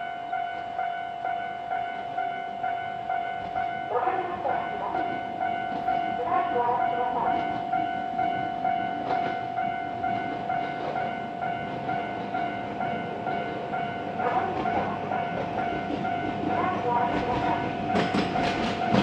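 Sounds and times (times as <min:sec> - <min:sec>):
level crossing bell ringing: 0:00.0 - 0:19.0
train wheels rumbling on rails: 0:03.1 - 0:19.0.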